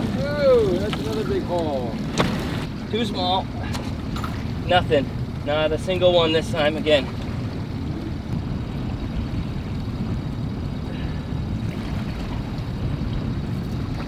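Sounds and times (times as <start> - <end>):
choppy sea water washing: 0.0 - 14.0
wind buffeting microphone: 0.0 - 14.0.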